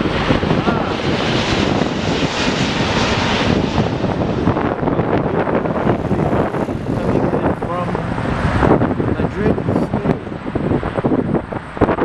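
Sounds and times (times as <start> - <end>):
jet airliner engine rush: 0.0 - 12.0
wind buffeting microphone: 0.0 - 12.0.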